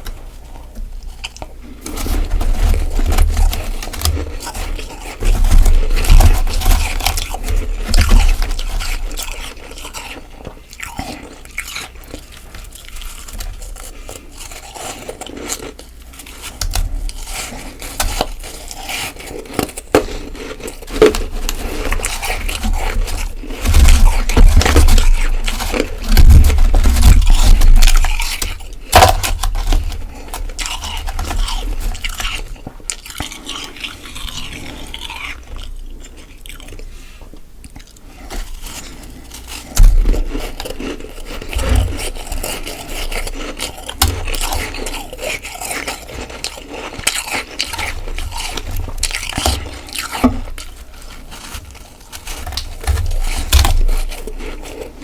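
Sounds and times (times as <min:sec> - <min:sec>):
crunchy chewing of frost: 0:00.0 - 0:55.0.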